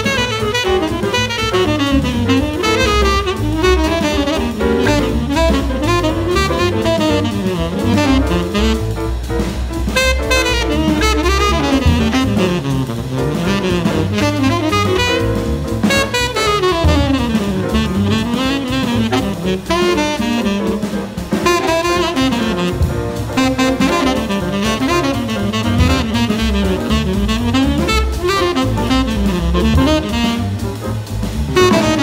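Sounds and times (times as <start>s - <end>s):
double bass: 0.0s - 32.0s
drums with cymbals: 0.0s - 32.0s
piano: 0.0s - 32.0s
tenor saxophone soloing: 0.0s - 32.0s.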